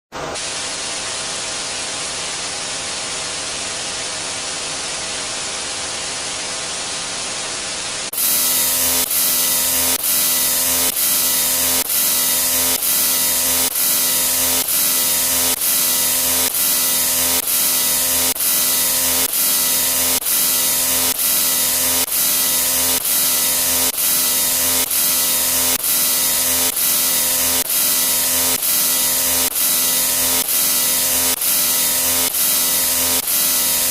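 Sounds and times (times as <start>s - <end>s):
harsh pulsing noise with hum: 0.2s - 33.9s.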